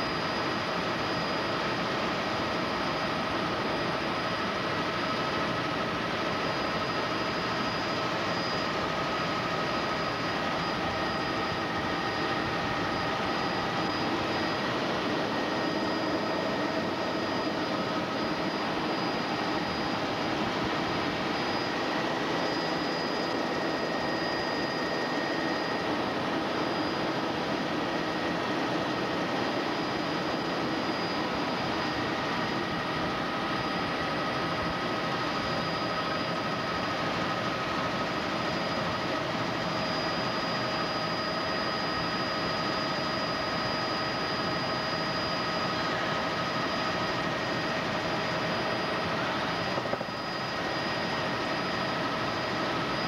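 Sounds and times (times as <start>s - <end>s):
constant high whine: 0.0s - 53.0s
helicopter engine and rotor noise: 0.0s - 53.0s.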